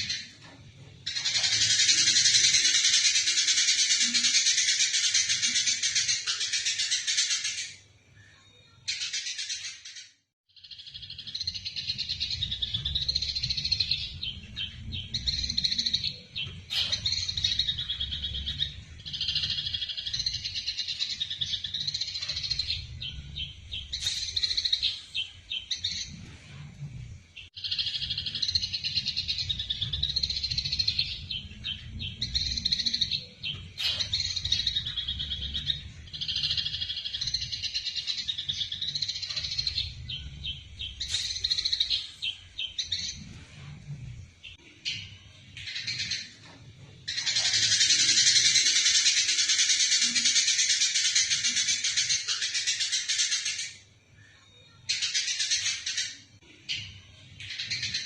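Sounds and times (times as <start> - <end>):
sparrows chattering: 0.0 - 7.9, 8.8 - 26.6, 27.4 - 46.4, 47.0 - 53.8, 54.8 - 58.0.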